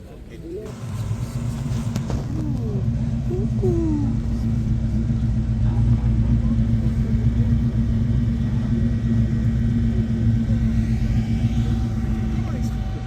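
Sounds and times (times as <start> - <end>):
car engine running at low revs: 0.1 - 13.0.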